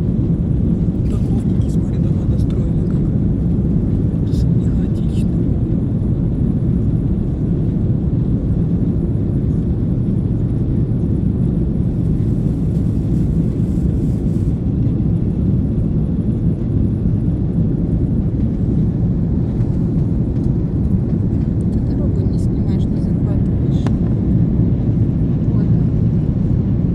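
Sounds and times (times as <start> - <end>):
jet engines and airflow drone: 0.0 - 26.9.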